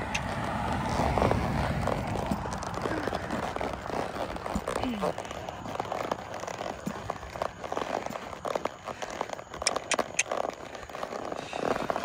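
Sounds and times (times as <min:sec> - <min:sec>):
horse hoofbeats on soft dirt: 0:00.0 - 0:12.0.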